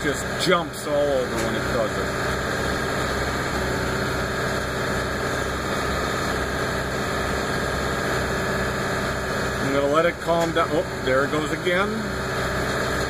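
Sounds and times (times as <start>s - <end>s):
diesel engine running above idle: 0.0s - 13.0s.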